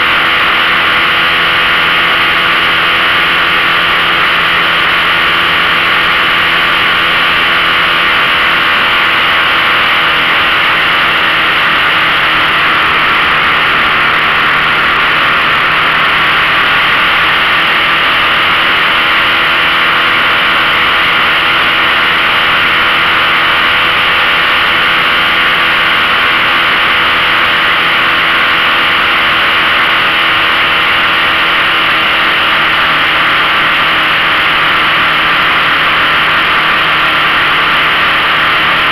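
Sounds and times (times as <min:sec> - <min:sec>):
loud steady rushing noise: 0:00.0 - 0:38.9
outboard motor running: 0:00.0 - 0:38.9.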